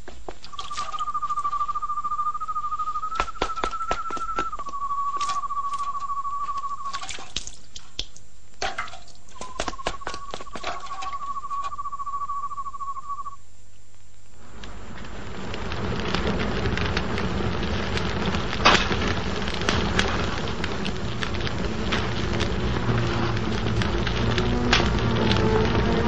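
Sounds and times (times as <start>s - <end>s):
fire popping: 0.0s - 13.2s, 13.9s - 26.0s
fire crackling: 0.0s - 26.0s.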